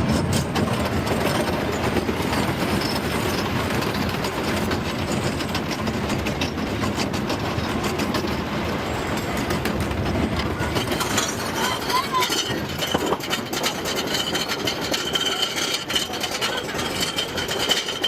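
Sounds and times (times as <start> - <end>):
fast uneven clicks and clatters: 0.0 - 18.0
roller coaster rumbling on track: 0.0 - 18.0.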